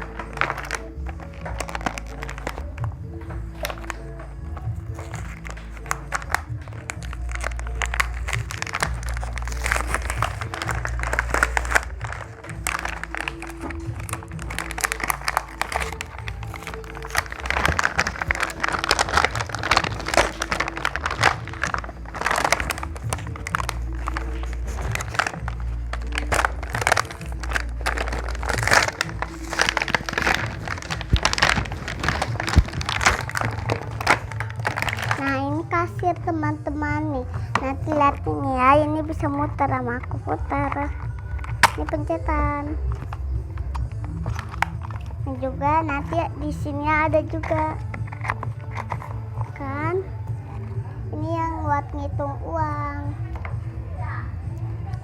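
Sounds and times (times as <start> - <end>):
plastic packaging rustling: 0.0 - 35.6, 40.0 - 46.2, 47.3 - 49.7
background music with bass: 0.0 - 55.0.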